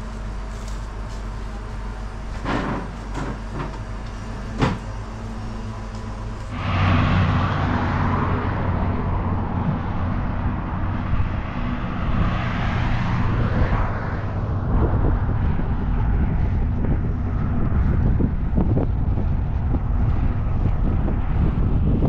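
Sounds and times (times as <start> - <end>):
road and wind noise: 0.0 - 22.0
vehicle engine hum: 0.0 - 22.0.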